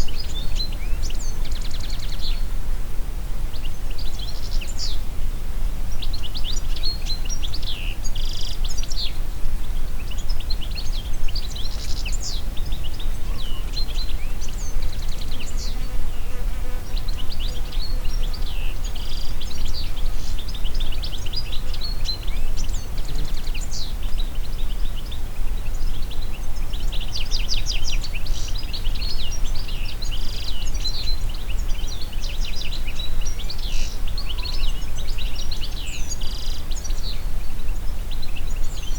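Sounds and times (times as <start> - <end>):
songbirds chirping: 0.0 - 38.9
wind through trees: 0.0 - 38.9.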